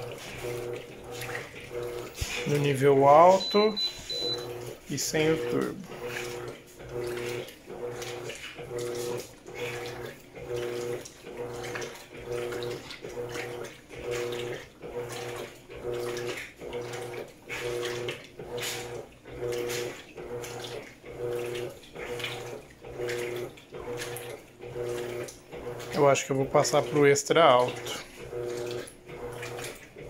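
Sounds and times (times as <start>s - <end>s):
washing machine motor humming: 0.0s - 30.0s
water sloshing: 0.0s - 30.0s.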